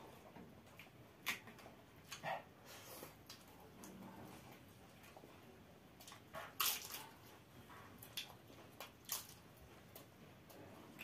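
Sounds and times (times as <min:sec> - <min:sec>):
chewing crunches and mouth smacks: 0:00.6 - 0:11.0.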